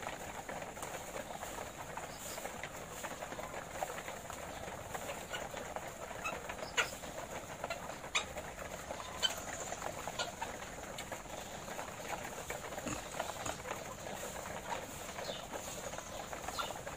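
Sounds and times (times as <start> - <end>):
hens pecking at wire and trough: 0.0 - 16.9.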